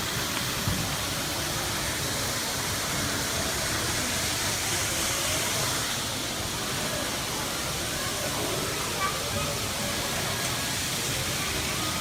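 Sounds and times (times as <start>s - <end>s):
hiss and hum of shop noise: 0.0s - 12.0s.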